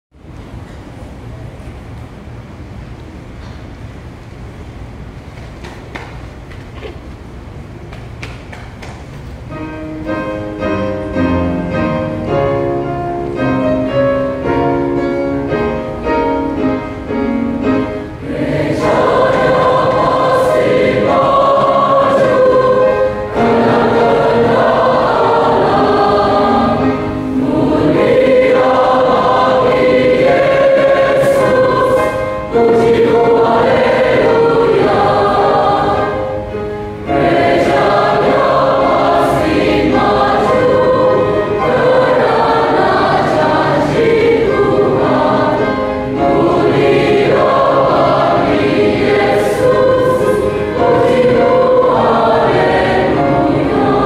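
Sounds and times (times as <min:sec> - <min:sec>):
mixed choir singing a hymn: 0:10.2 - 0:54.0.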